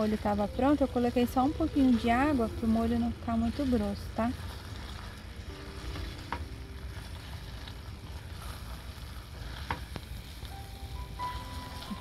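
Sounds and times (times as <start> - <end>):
pan hissing: 1.0 - 12.0.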